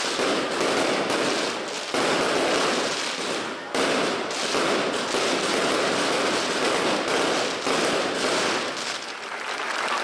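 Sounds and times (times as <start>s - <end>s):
firecrackers crackling: 0.0s - 10.0s.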